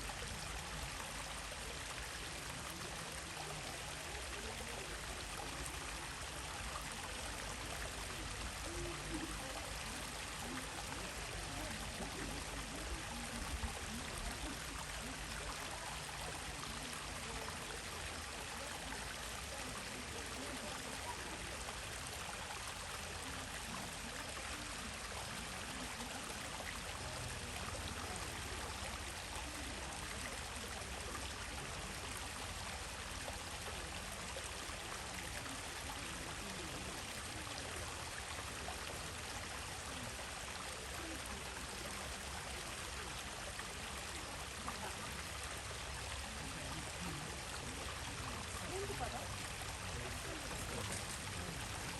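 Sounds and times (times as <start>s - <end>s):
stream water flowing over stones: 0.0s - 51.9s.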